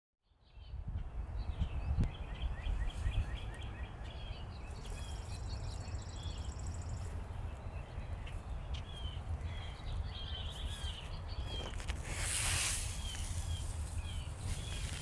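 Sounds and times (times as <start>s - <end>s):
bird chirps: 0.2s - 15.0s.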